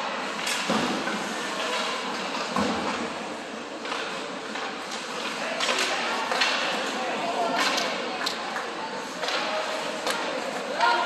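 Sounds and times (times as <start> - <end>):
hockey play and crowd hiss: 0.0 - 11.0.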